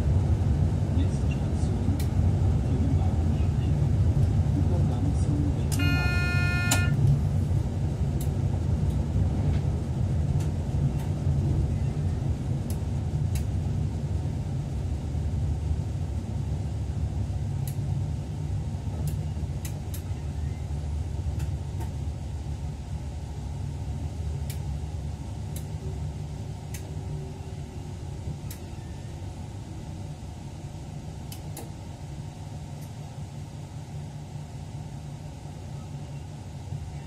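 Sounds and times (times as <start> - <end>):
train low rumble: 0.0 - 37.0.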